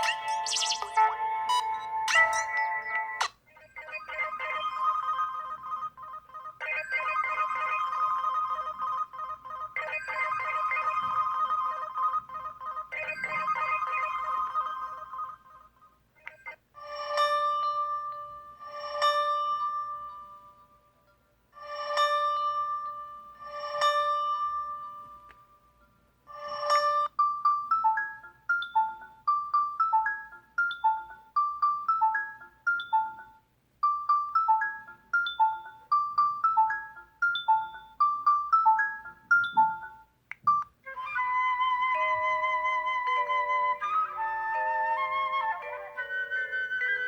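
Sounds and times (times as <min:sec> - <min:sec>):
quick chiming ringtone melody: 0:00.0 - 0:06.0, 0:06.6 - 0:15.6, 0:16.8 - 0:20.8, 0:21.6 - 0:25.7, 0:26.3 - 0:47.0.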